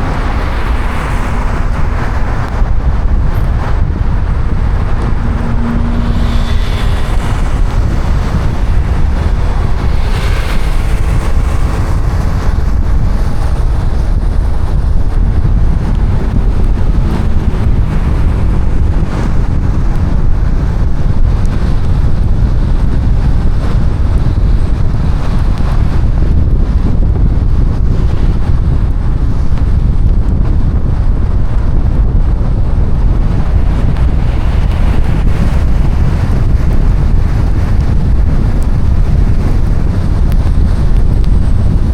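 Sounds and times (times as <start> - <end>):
rain and wind on car: 0.0 - 41.9
tyres rumbling on wet road: 0.0 - 41.9.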